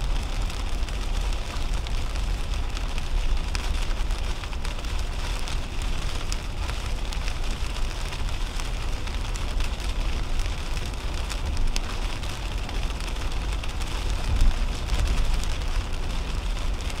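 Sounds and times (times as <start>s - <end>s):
rain ticking on windshield: 0.0s - 17.0s
tyres rumbling on wet road: 0.0s - 17.0s.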